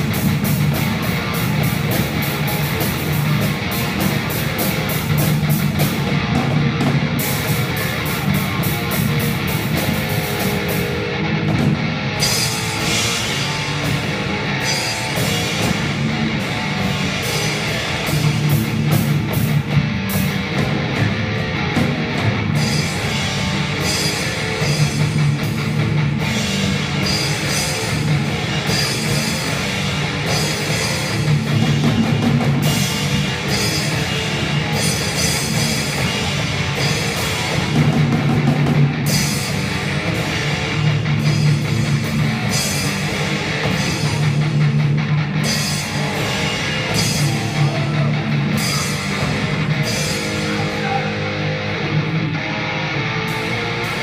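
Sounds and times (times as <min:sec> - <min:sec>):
drum kit and cymbals: 0:00.0 - 0:51.9
electric guitar: 0:00.0 - 0:54.0.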